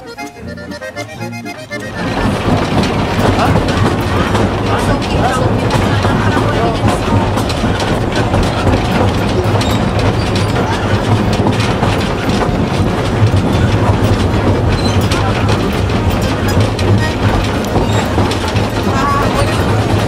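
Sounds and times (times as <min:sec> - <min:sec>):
train carriage rumbling on track: 0:00.0 - 0:20.0
wheels clicking on rails: 0:00.0 - 0:20.0.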